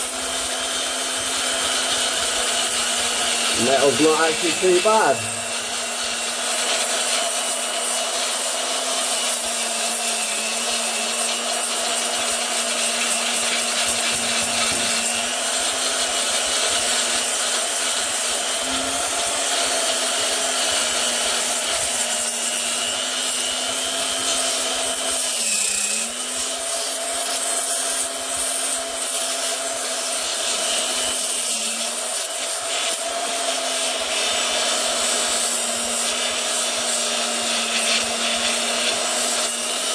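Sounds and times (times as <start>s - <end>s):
angle grinder on metal: 0.0s - 39.9s.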